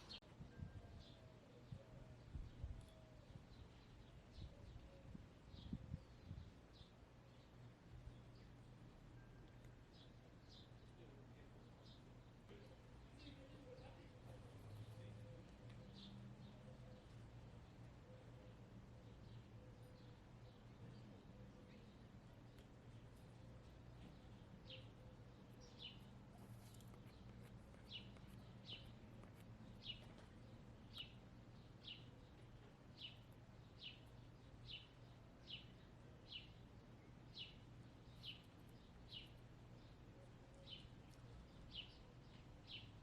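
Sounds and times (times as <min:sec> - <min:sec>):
faint bird chirping: 0:00.0 - 0:43.0.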